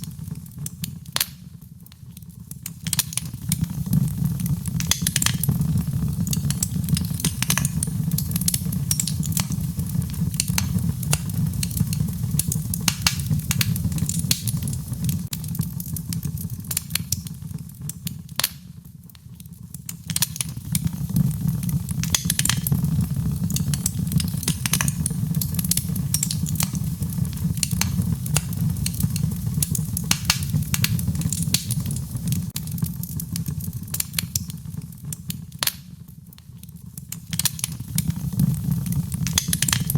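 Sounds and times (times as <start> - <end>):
fireplace fire crackling: 0.0 - 39.9
low rumble of flames: 0.0 - 39.9.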